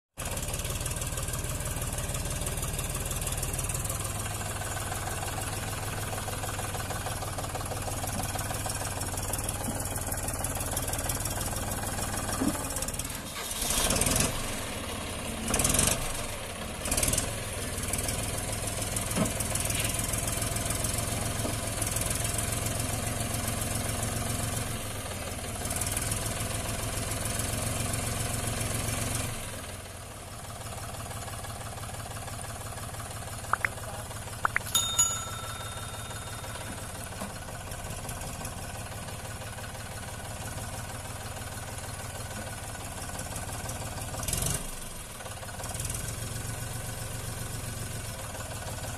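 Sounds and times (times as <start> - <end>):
tractor diesel engine running: 0.2 - 48.9.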